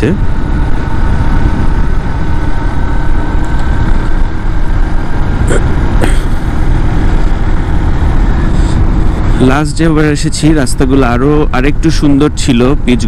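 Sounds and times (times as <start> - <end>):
motorcycle engine: 0.0 - 13.0
wind noise on microphone: 0.0 - 13.0.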